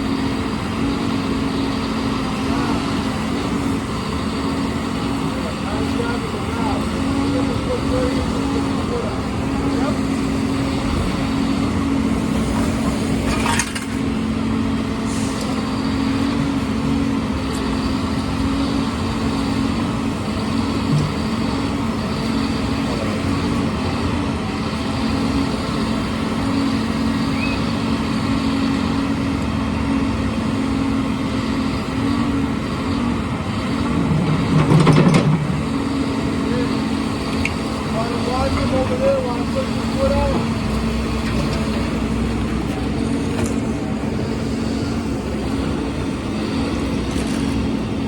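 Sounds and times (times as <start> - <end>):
heavy engine machinery running: 0.0 - 48.0
street noise: 0.0 - 48.0.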